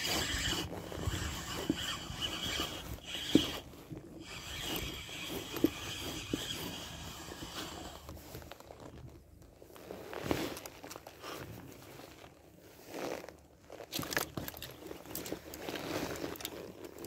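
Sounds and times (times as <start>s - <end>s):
rubbing handling noise: 0.0s - 17.0s.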